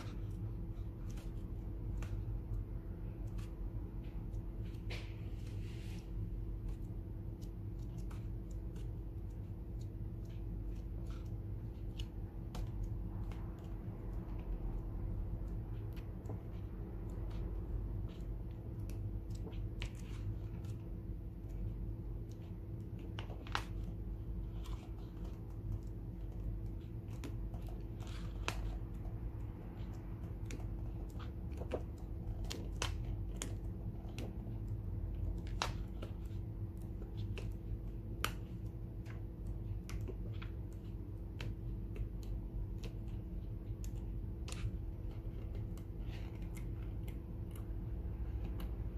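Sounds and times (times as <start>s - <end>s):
book pages turning: 0.0s - 48.9s
steady low hum: 0.0s - 48.9s.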